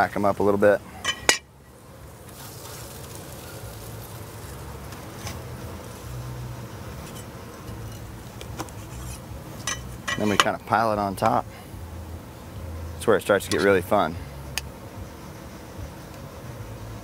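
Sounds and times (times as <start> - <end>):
low droning hum: 2.9 - 17.0.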